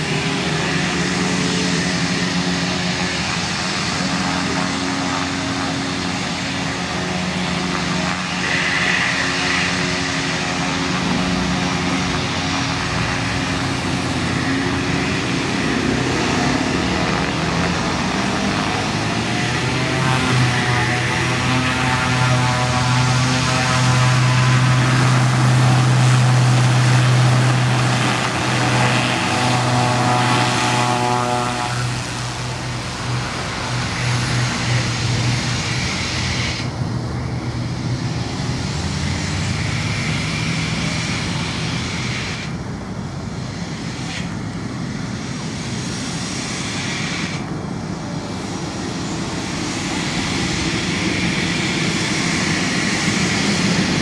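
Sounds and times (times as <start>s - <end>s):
turboprop engine and propeller: 0.0s - 54.0s.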